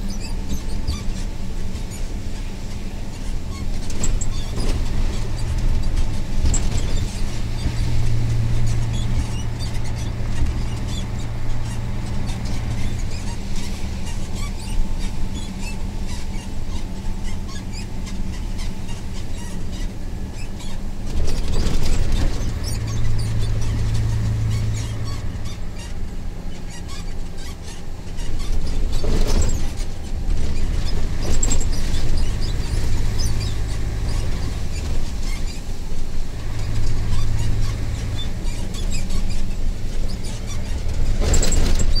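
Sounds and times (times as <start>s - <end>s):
truck diesel engine drone: 0.0s - 42.0s
tyre and road noise: 0.0s - 42.0s.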